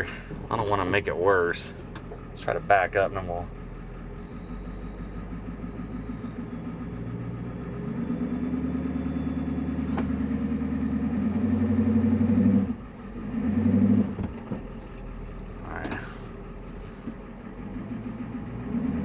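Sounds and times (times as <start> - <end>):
diesel truck engine revving hard: 0.0 - 19.0.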